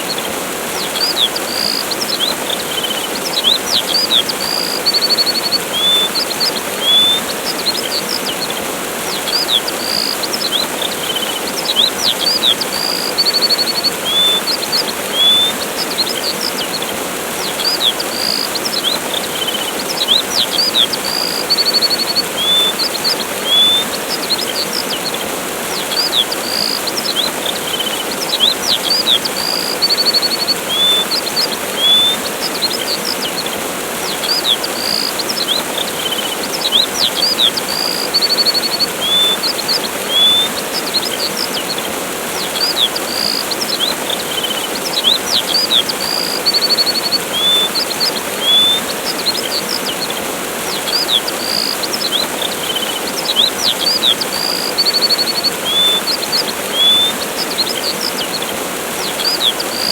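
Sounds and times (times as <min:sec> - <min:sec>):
songbirds chirping: 0:00.0 - 0:59.9
waterfall rushing: 0:00.0 - 0:59.9.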